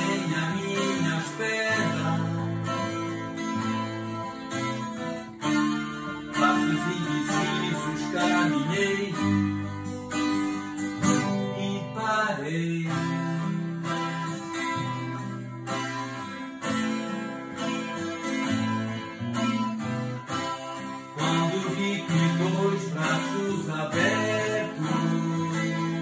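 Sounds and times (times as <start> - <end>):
acoustic guitars playing: 0.0 - 26.0.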